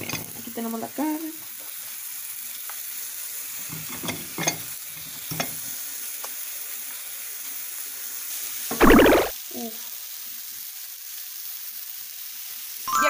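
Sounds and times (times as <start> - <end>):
meat patty sizzling: 0.6 - 12.9.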